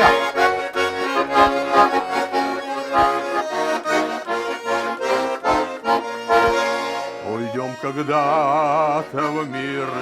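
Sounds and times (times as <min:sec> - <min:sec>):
button accordion playing: 0:00.0 - 0:10.0.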